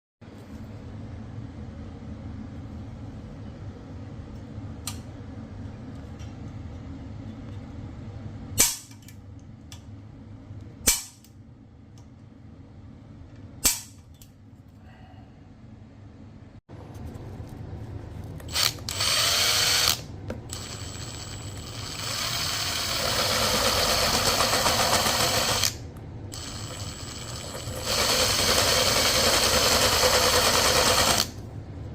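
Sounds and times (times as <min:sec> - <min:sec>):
low steady hum: 0:00.2 - 0:31.9.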